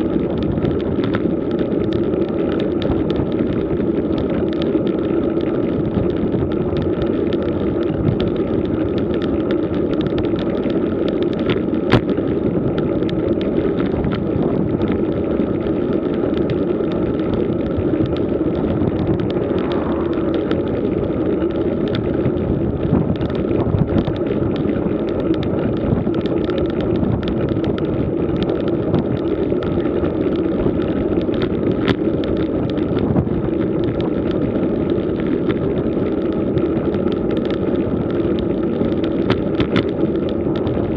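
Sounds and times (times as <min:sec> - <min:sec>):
bike tyres rumbling on tarmac: 0:00.0 - 0:40.9.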